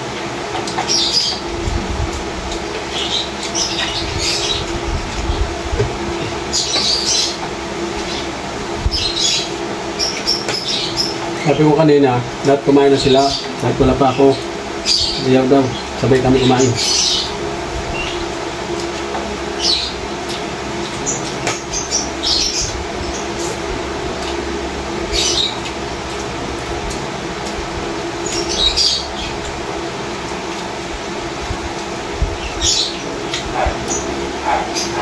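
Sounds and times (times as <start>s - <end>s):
room hum: 0.0s - 35.0s.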